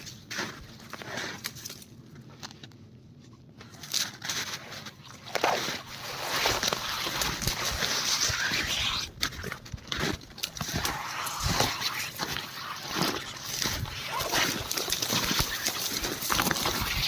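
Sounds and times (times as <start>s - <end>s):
footsteps crunching in slushy snow: 0.0s - 1.9s, 3.8s - 17.0s.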